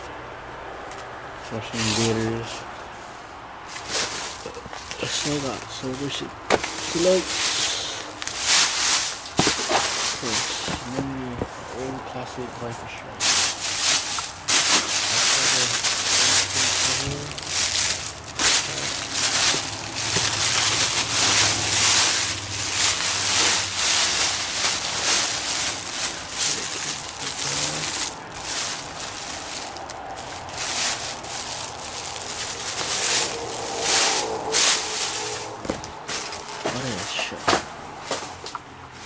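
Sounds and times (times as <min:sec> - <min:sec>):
plastic bags rustling and crinkling: 0:01.7 - 0:02.5, 0:03.7 - 0:39.0.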